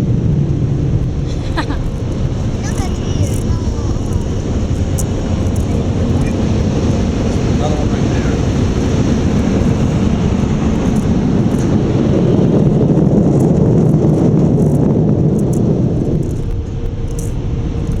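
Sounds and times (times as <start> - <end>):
car wash air dryers blowing: 0.0 - 16.8.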